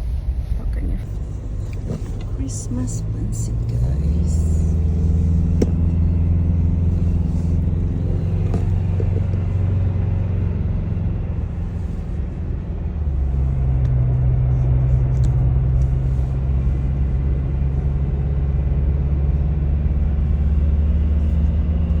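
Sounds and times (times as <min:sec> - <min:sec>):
car engine drone: 0:00.0 - 0:22.0
road noise inside car: 0:00.0 - 0:22.0.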